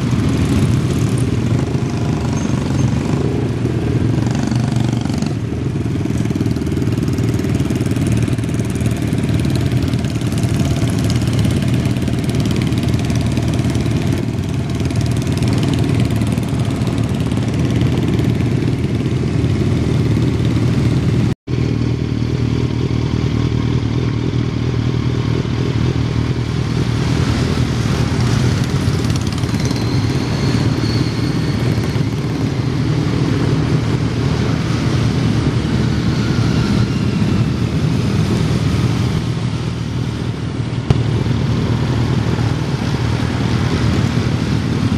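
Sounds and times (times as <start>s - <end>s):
motorcycle engines passing: 0.0s - 44.9s.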